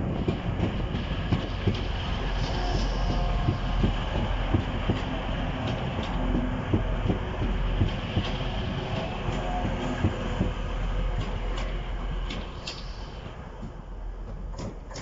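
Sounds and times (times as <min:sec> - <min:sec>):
train wheels knocking over rail joints: 0:00.0 - 0:15.0.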